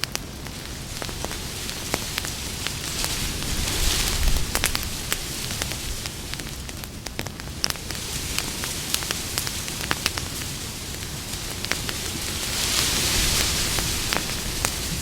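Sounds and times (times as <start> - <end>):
campfire wood crackling: 0.0 - 15.0
low rush of flame: 0.0 - 15.0.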